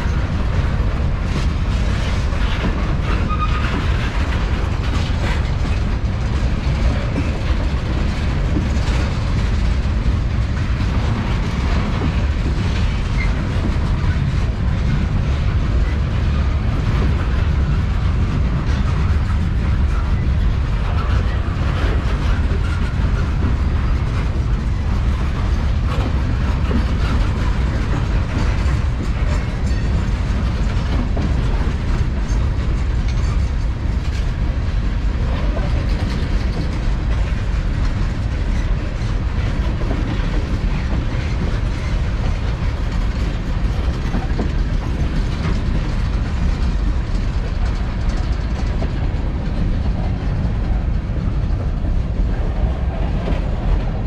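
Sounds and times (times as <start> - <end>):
rumble of wheels on rail: 0.0 - 54.0
wheels clicking over rail joints: 0.0 - 54.0.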